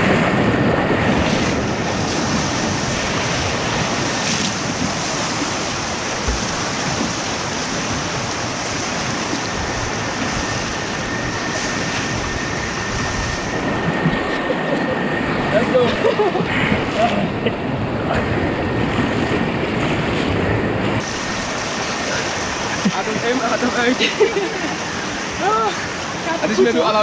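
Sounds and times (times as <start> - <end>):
water rushing over rapids: 0.0 - 27.0
wind buffeting microphone: 0.0 - 27.0.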